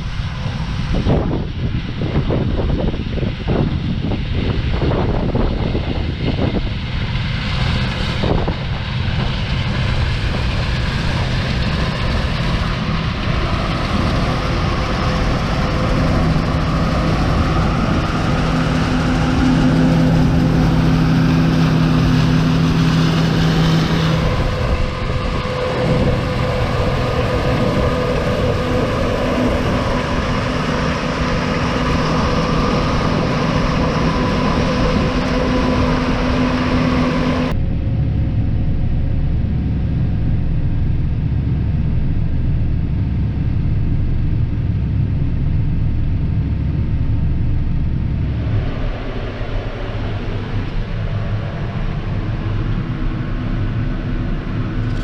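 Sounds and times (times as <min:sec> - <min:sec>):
farm vehicle engine running: 0:00.0 - 0:55.0.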